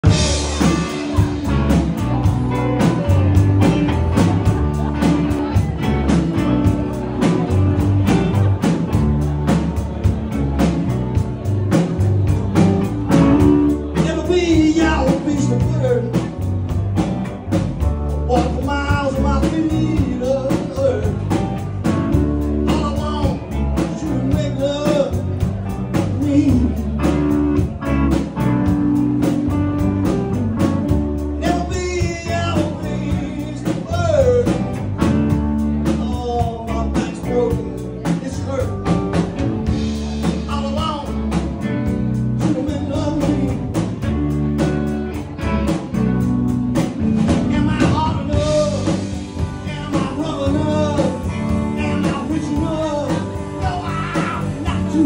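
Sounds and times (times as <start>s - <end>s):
man singing: 0.0s - 17.1s, 17.8s - 29.9s, 30.6s - 44.7s, 46.8s - 55.0s
electric band playing: 0.0s - 55.0s.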